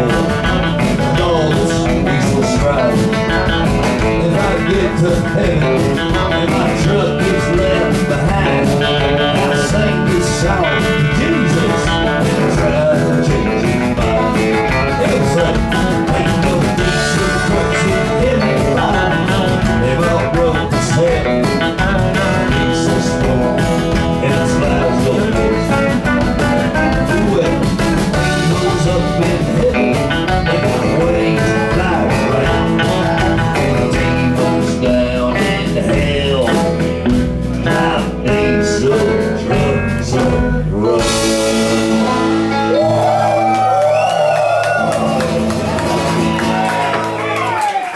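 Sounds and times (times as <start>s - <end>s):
live country band playing: 0.0s - 47.9s.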